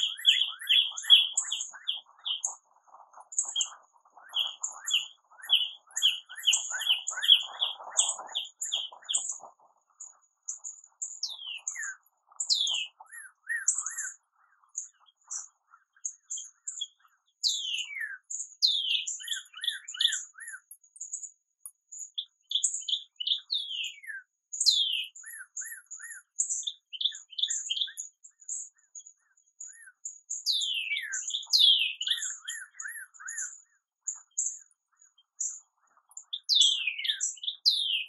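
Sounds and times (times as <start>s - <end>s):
small birds chirping and singing: 0.0s - 38.0s.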